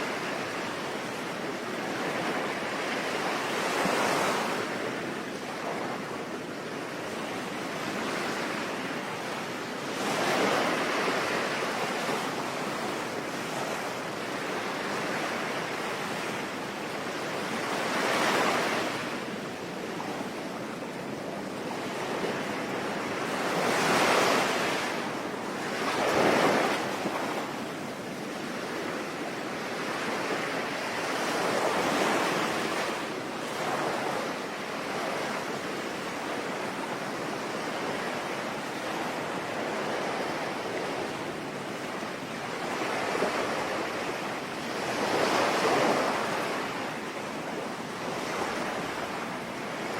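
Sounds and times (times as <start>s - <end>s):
sea waves breaking: 0.0s - 49.9s.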